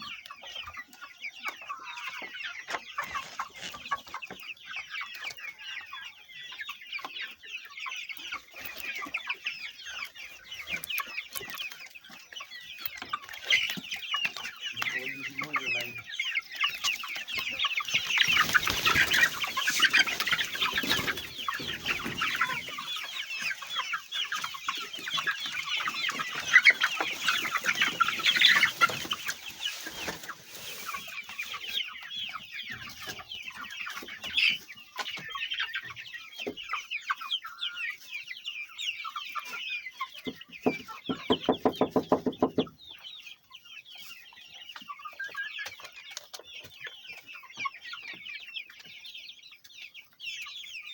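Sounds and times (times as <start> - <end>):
poultry cheeping and clucking: 0.0 - 50.9.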